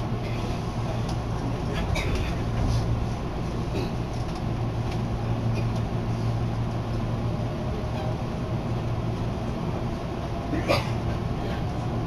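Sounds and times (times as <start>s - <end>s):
train car low hum: 0.0s - 12.0s.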